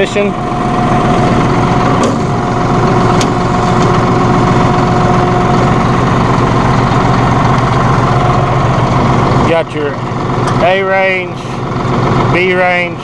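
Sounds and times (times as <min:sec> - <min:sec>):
diesel engine running: 0:00.0 - 0:13.0
steady whine: 0:00.0 - 0:13.0.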